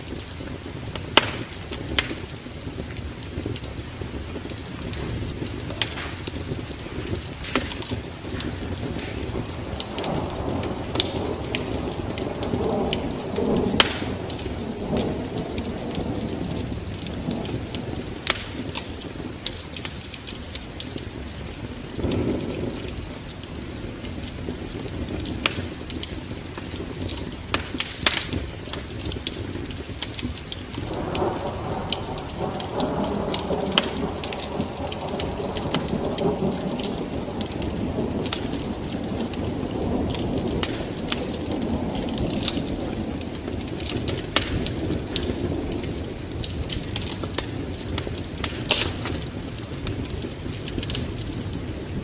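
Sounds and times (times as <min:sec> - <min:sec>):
sharp pops of fire: 0:00.0 - 0:52.0
wood fire crackling: 0:00.0 - 0:52.0.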